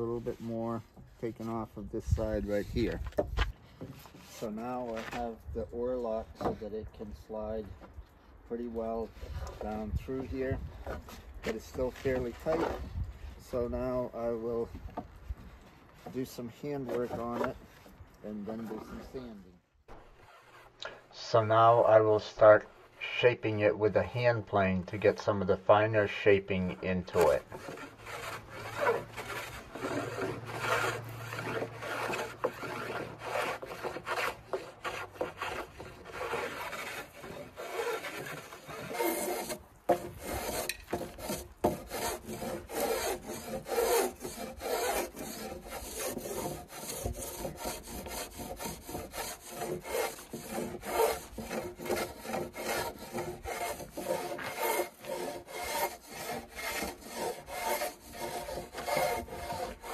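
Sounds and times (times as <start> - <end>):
hand plane shaving wood: 0.0 - 6.7, 8.8 - 14.8, 15.4 - 20.8, 26.1 - 59.9.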